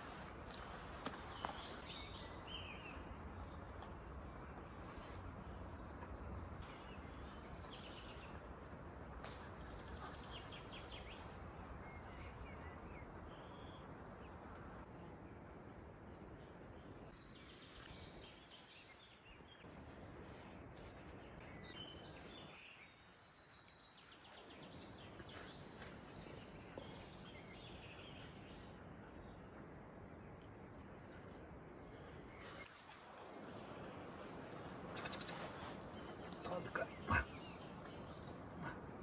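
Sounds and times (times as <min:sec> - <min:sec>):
steady low hiss: 0:00.0 - 0:39.0.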